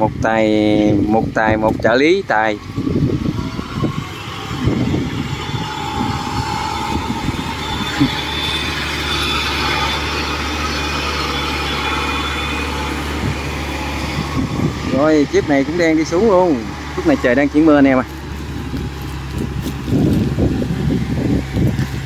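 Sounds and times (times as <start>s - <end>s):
tracked carrier engine driving past: 0.6s - 22.0s.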